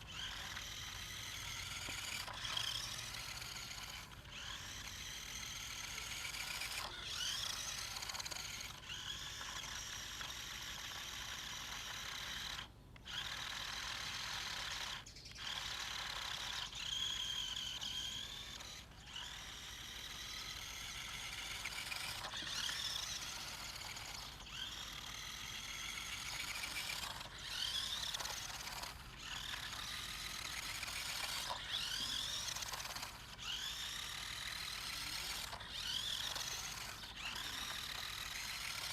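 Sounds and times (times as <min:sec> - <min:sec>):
toy car electric motor whining: 0:00.0 - 0:38.9.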